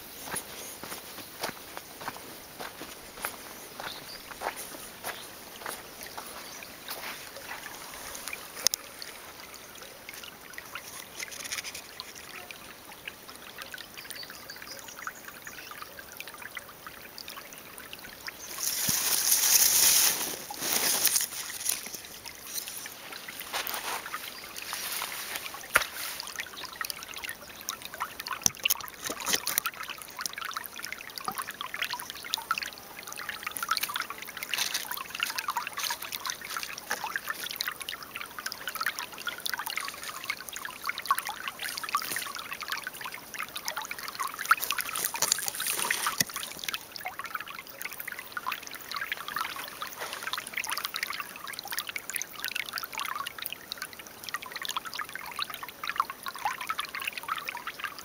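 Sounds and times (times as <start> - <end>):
stream trickling over pebbles: 0.0 - 58.0.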